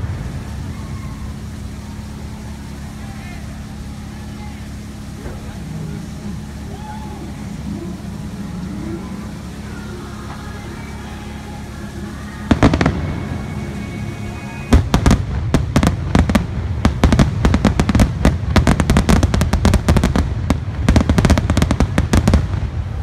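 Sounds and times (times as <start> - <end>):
firework bangs: 0.0 - 23.0
fireworks show music: 0.0 - 23.0.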